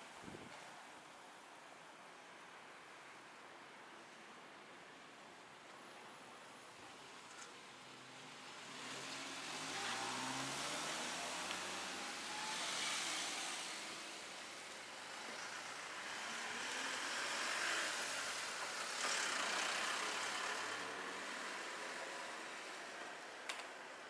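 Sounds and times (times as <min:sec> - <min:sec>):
vehicles passing: 0:03.9 - 0:24.0.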